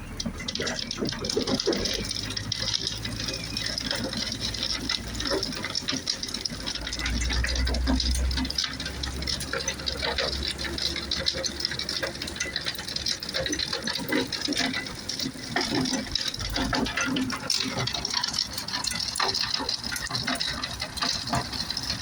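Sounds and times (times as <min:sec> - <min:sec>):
screen rattling in rain: 0:00.0 - 0:22.0.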